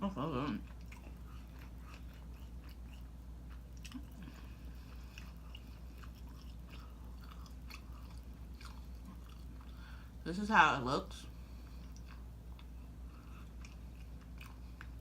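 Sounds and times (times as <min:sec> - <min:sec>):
steady low hum: 0:00.0 - 0:15.0
chewing with wet smacks: 0:00.1 - 0:10.2, 0:11.3 - 0:15.0.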